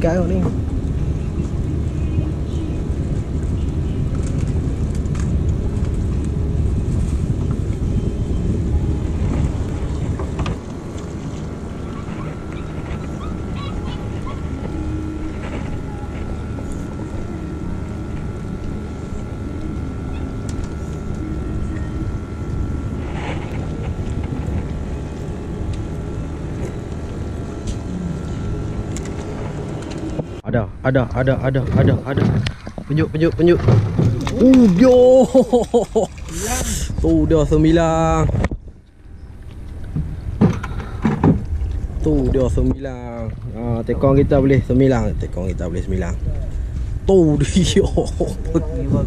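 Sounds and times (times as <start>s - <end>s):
outboard motor running: 0.0s - 49.0s.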